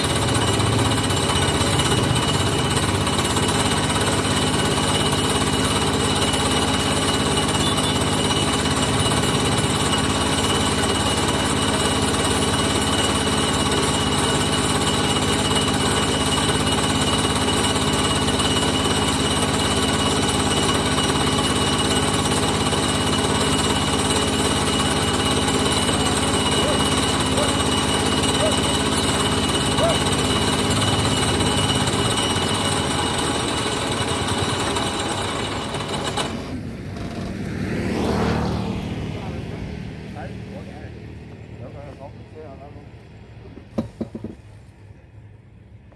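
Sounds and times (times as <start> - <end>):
engine chugging steadily: 0.0 - 45.9.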